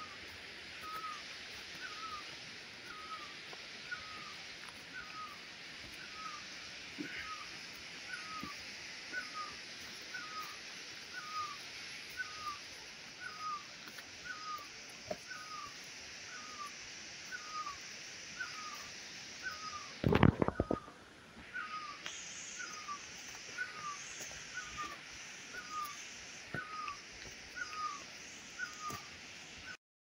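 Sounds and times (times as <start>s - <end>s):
steady high hiss: 0.0s - 29.8s.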